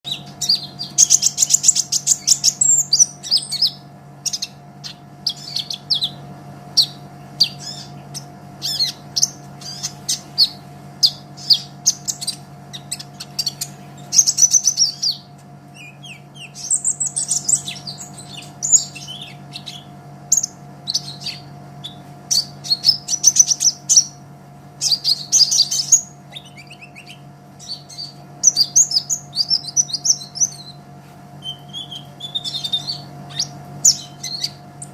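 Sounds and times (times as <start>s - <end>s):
faint steady hum: 0.0s - 34.9s
bird chirps and trills: 0.1s - 34.9s.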